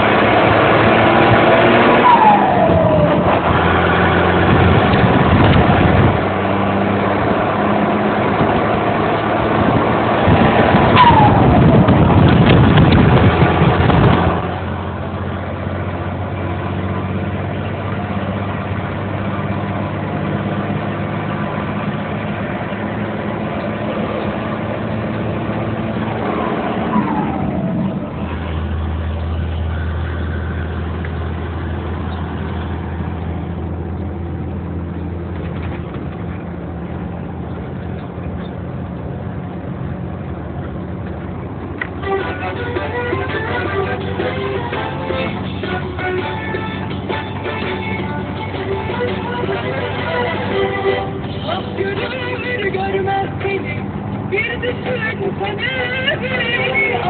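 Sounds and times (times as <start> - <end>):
diesel truck engine idling: 2.1 - 57.0.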